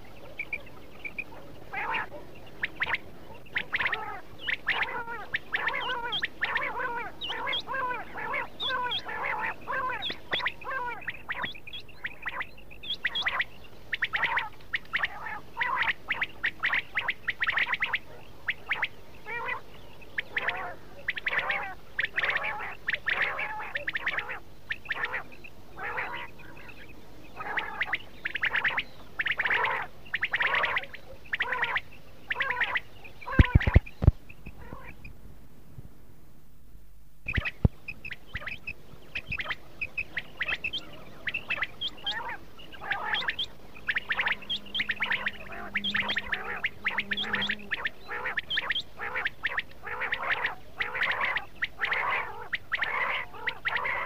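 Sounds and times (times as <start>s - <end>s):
quails calling: 0.0s - 35.1s, 37.3s - 54.0s.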